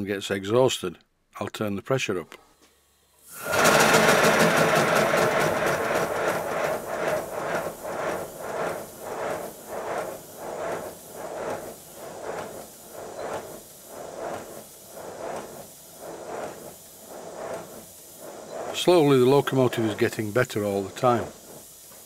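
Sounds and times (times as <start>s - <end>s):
model steam locomotive chuffing: 3.3s - 22.0s.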